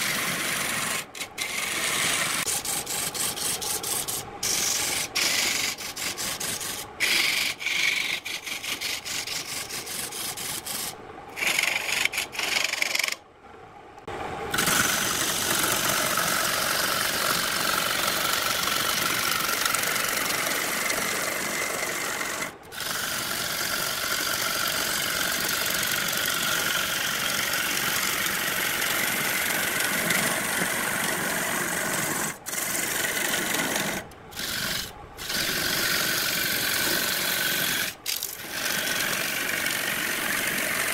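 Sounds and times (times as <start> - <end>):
gouge scraping wood on lathe: 0.0 - 13.2, 14.6 - 40.9.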